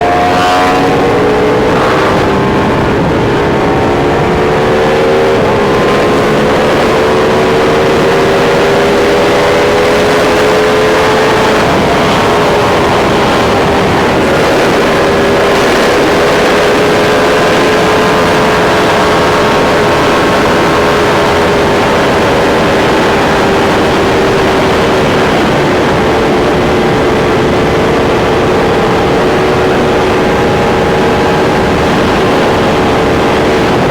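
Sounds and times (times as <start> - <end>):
constant rushing noise: 0.0 - 33.9
motorcycle engine under load: 0.0 - 33.9.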